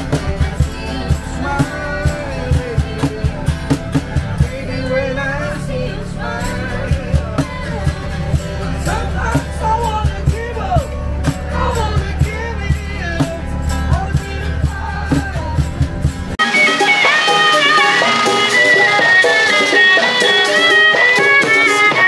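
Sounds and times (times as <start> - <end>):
people singing: 0.0 - 20.7
strummed acoustic guitar: 0.0 - 22.0.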